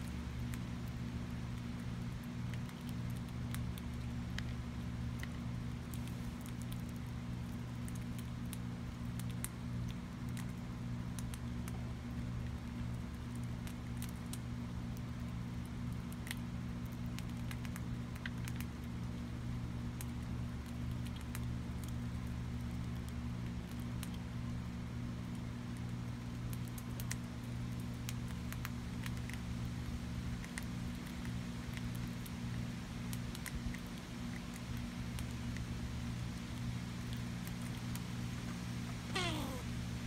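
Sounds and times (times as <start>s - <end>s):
squirrel chewing clicks: 0.0s - 19.2s, 19.9s - 24.6s, 25.2s - 38.6s, 39.2s - 39.6s.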